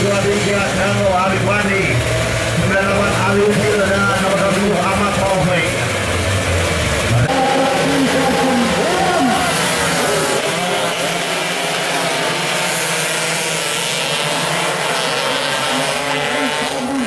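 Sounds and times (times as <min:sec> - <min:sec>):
motorcycles passing at full throttle: 0:00.0 - 0:17.0.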